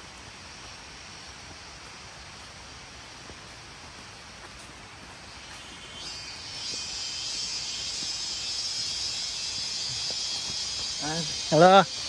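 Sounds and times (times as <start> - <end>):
insect chorus shrill drone: 0.0 - 12.0.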